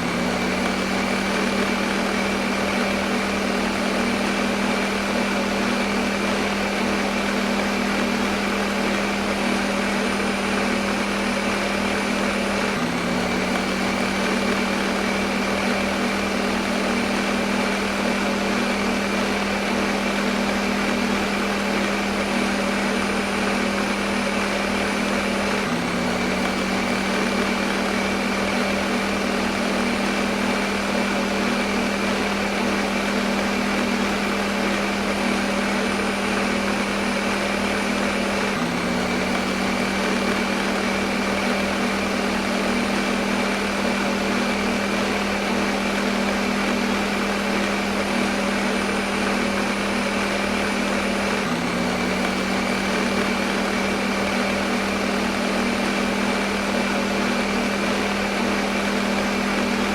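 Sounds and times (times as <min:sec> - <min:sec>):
electric blender running: 0:00.0 - 0:59.9.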